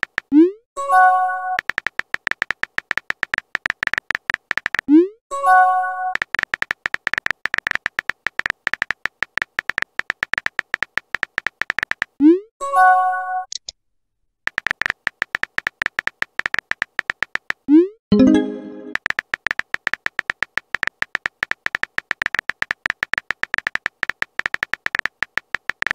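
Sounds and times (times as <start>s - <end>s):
keyboard typing clicks: 1.0s - 5.0s, 6.1s - 12.2s, 14.5s - 25.9s.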